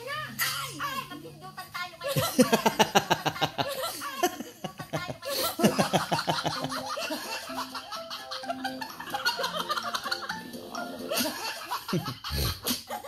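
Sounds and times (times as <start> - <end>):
hearty laughter: 2.0 - 13.0.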